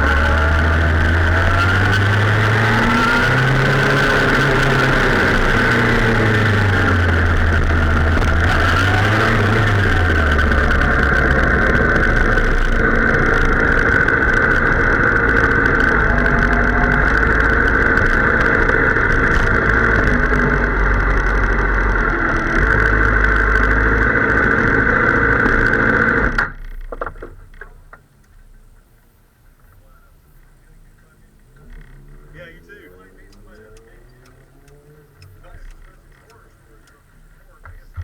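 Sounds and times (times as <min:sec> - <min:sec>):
motorcycle engine roaring: 0:00.0 - 0:28.8, 0:29.4 - 0:38.0.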